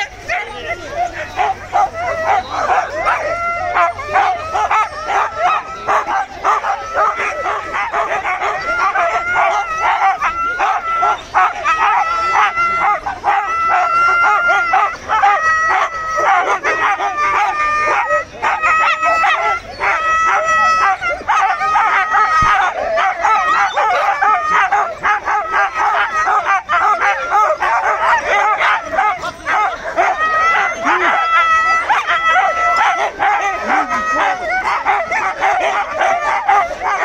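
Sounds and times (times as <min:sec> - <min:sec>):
dogs barking and yelping: 0:00.0 - 0:37.0.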